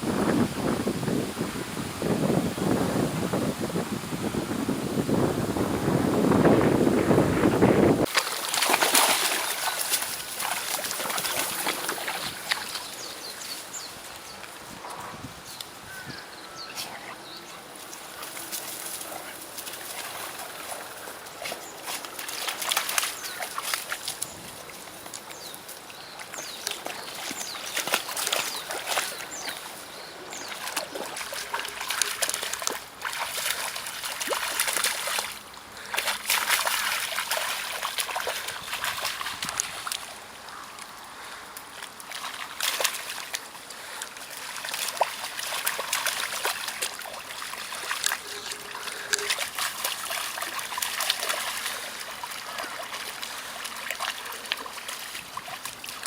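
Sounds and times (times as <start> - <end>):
river water splashing and trickling: 7.9 - 56.0.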